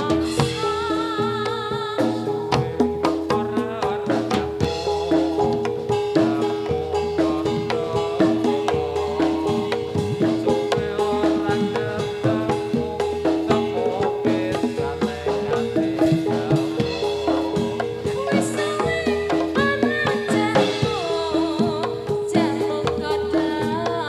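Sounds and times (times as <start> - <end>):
metallophones playing: 0.0 - 23.1
hand drums: 0.0 - 24.0.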